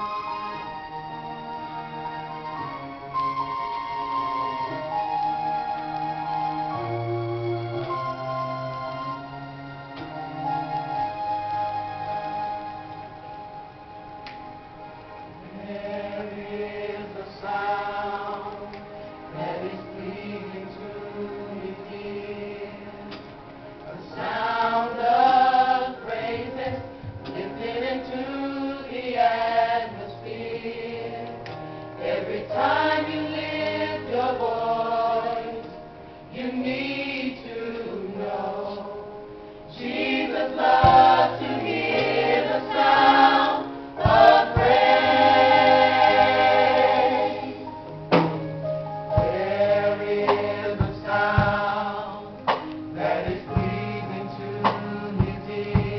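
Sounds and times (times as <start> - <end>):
gospel choir singing: 0.0 - 48.4, 49.0 - 55.9.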